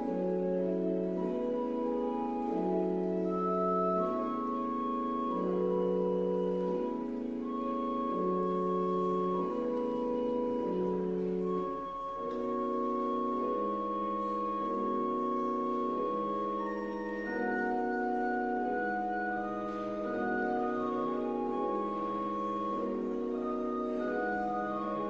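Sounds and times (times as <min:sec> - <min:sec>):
church organ playing: 0:00.0 - 0:25.0.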